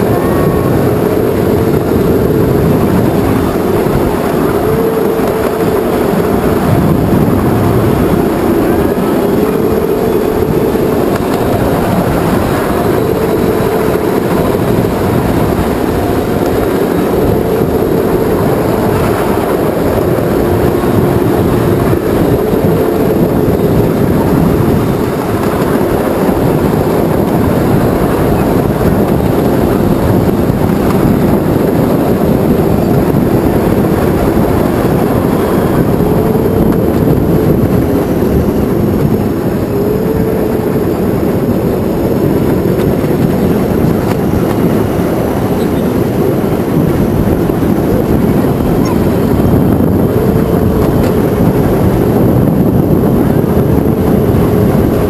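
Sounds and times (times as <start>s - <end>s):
motor whine: 0.0s - 55.0s
wheels rumbling on rail: 0.0s - 55.0s.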